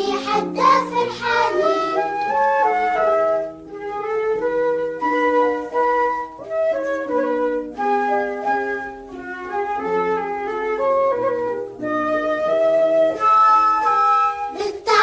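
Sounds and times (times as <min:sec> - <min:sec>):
instrumental children's song melody: 0:00.0 - 0:15.0.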